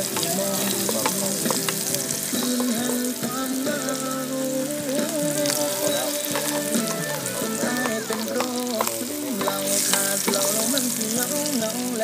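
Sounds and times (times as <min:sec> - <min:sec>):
utensil stirring and scraping: 0:00.0 - 0:03.9, 0:05.1 - 0:11.4
food sizzling in a pan: 0:00.0 - 0:12.0
song playing: 0:00.0 - 0:12.0.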